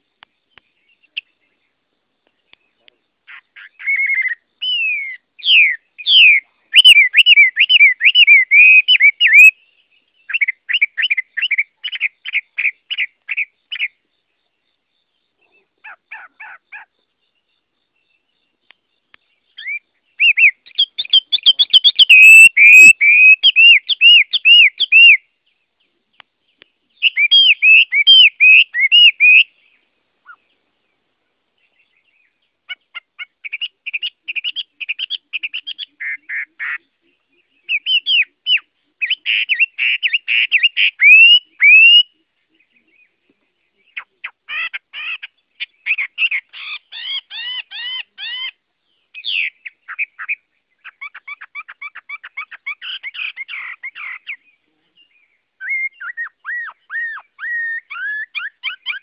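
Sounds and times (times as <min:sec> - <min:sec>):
bird singing whistled notes: 0:00.0 - 0:31.0, 0:31.6 - 0:59.0.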